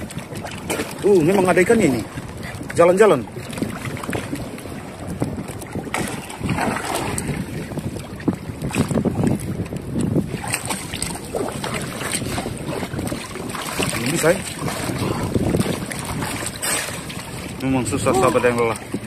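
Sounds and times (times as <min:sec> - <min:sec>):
water splashing against boat hull: 0:00.0 - 0:19.0
wind buffeting microphone: 0:00.0 - 0:19.0.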